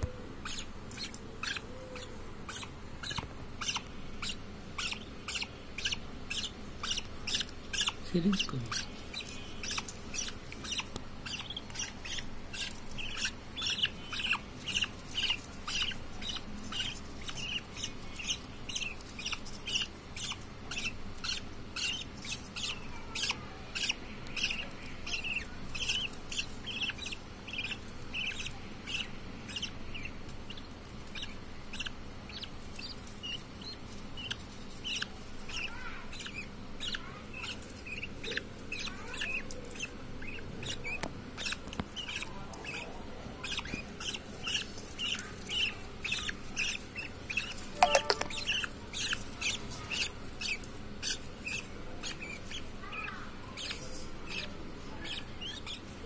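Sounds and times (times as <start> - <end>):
bird chicks chirping: 0.0 - 56.0.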